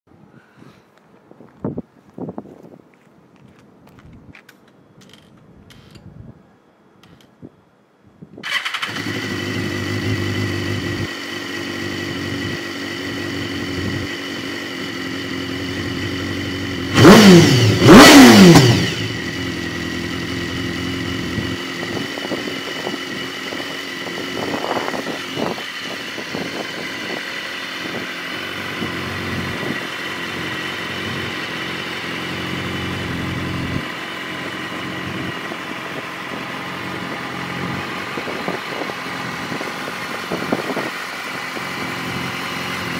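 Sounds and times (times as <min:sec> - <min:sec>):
motorcycle engine starting and idling: 0:08.4 - 0:42.9
engine revving: 0:08.5 - 0:42.9.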